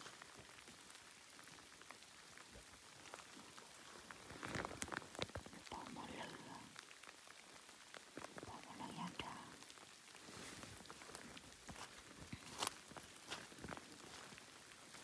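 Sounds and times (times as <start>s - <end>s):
faint crackling patter: 0.0s - 15.0s.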